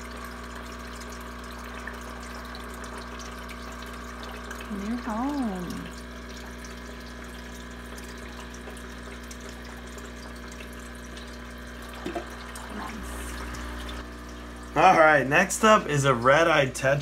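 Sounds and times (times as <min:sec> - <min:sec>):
filter motor hum: 0:00.0 - 0:17.0
water trickling: 0:00.0 - 0:17.0.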